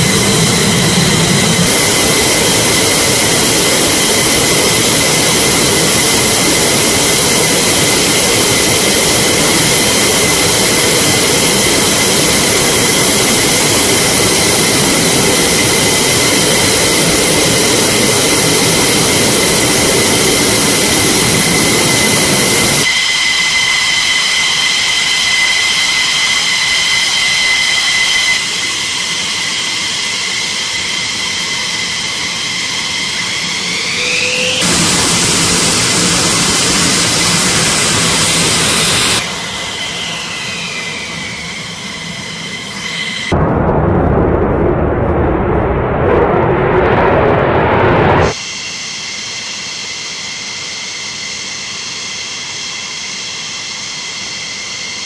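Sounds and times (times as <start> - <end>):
high jet engine whine: 0.0 - 55.0
jet engines idling roar: 0.0 - 55.0.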